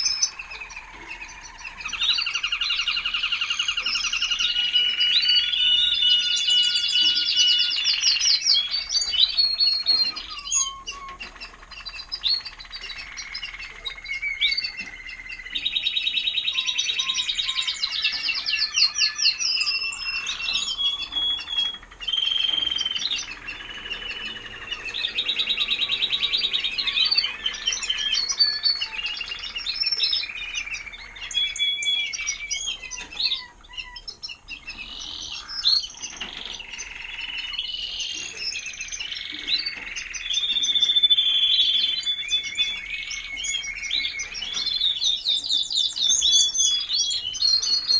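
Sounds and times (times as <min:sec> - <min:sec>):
canaries singing trills: 0:00.0 - 0:47.9.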